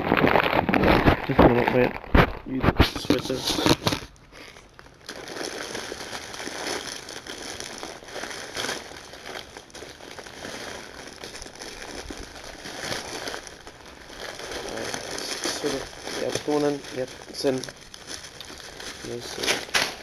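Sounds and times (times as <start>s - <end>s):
rustling and crackling handling noise: 0.0s - 20.0s.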